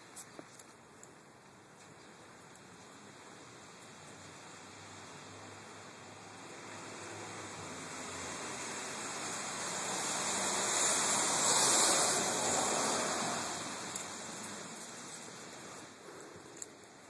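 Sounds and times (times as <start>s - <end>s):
tyre hiss on wet road: 1.8s - 17.0s.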